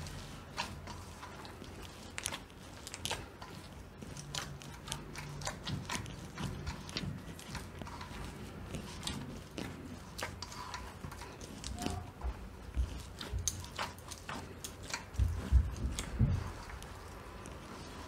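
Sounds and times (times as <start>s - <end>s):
hands kneading sticky dough: 0.0s - 18.0s.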